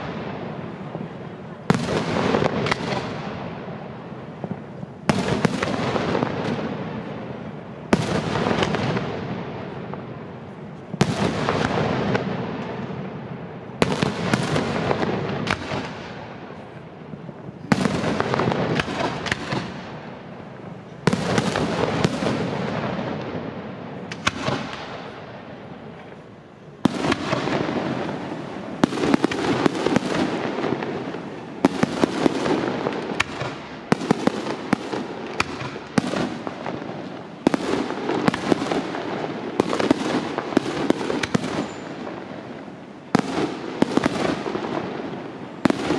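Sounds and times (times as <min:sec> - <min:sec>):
fireworks bursting with crackling: 0:00.0 - 0:45.9.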